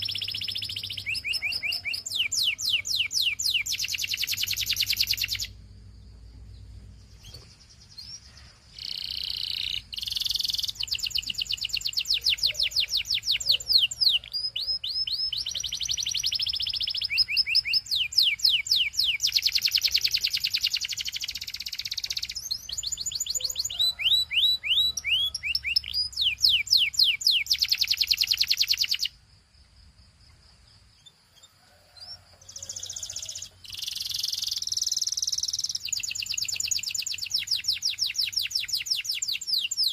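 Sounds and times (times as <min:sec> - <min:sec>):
canary singing trills: 0:00.0 - 0:29.2, 0:30.3 - 0:39.9.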